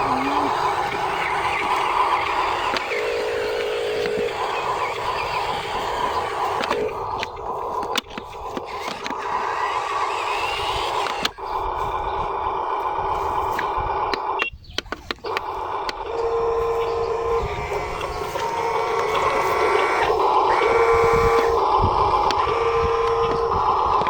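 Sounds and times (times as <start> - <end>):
clicks: 0.0 - 11.7, 12.3 - 24.0
small electric motors whirring: 0.0 - 24.0.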